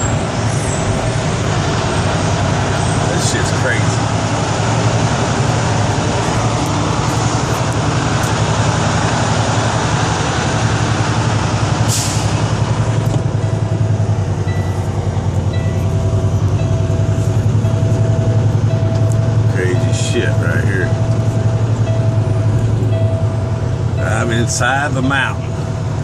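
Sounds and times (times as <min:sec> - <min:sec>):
diesel truck engine drone: 0:00.0 - 0:26.0
road noise: 0:00.0 - 0:26.0.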